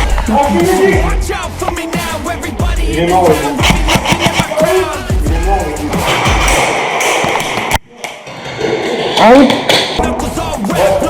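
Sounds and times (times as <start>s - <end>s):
hip-hop music with vocals: 0.0s - 7.8s, 8.8s - 11.0s.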